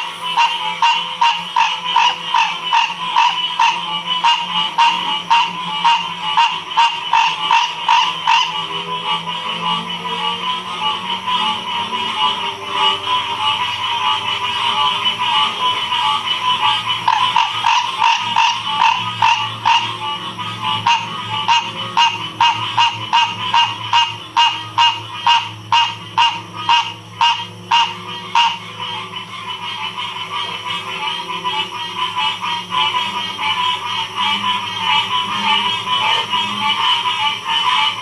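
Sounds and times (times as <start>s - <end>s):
frog short calls: 0.0s - 8.7s, 15.3s - 38.0s
frog chorus: 0.0s - 38.0s.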